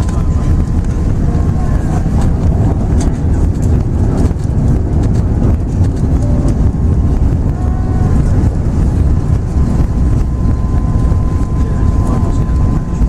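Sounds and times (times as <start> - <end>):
deep cabin rumble: 0.0 - 13.0.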